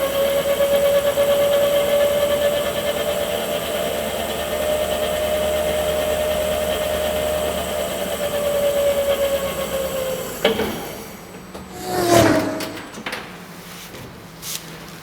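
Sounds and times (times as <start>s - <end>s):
electric drivetrain whining: 0.0s - 13.2s.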